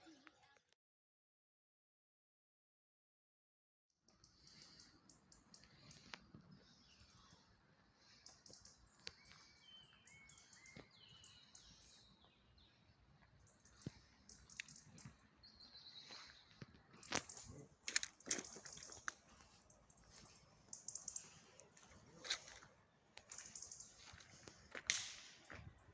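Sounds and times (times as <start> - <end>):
small birds chirping: 4.1 - 25.9.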